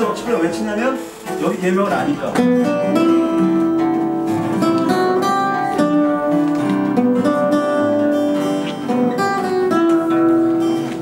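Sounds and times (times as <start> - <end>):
acoustic guitar picked melody: 0.0 - 11.0.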